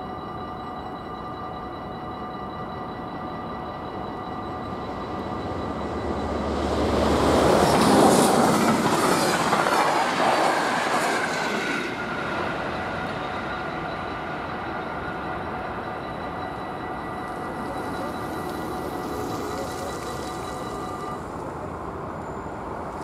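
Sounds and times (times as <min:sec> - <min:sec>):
crossing bell ringing: 0:00.0 - 0:23.0.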